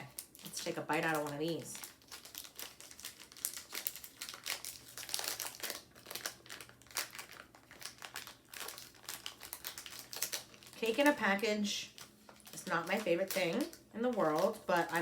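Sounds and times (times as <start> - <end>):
snack wrapper crinkling: 0.0 - 11.2, 11.8 - 15.0.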